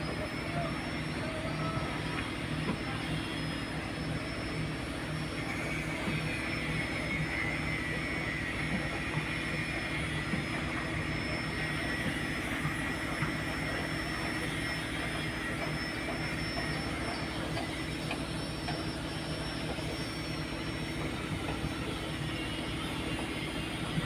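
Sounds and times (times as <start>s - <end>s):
boat engine drone: 0.0s - 24.0s
thin high whine: 0.0s - 24.0s.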